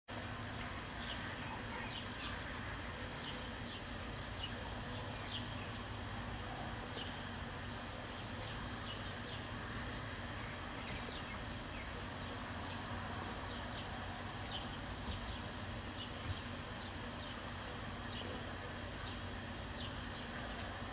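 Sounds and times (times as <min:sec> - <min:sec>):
distant traffic hum: 0:00.1 - 0:20.9
high trill of insects: 0:00.1 - 0:20.9.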